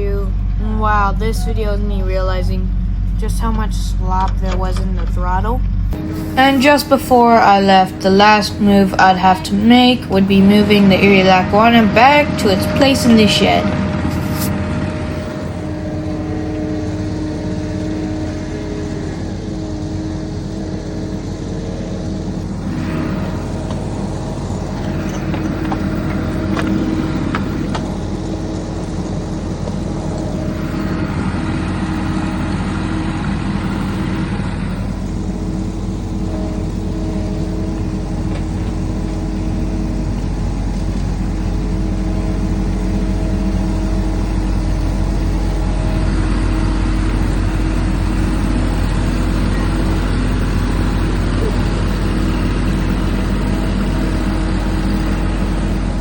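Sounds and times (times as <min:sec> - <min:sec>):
model locomotive engine running: 0:00.0 - 0:56.0.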